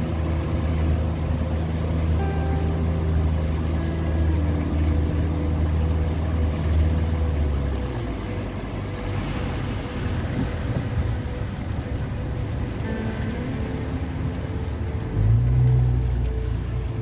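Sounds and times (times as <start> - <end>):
boat motor rumble: 0.0 - 17.0
water splashing against boat: 0.0 - 17.0
wind: 0.0 - 17.0.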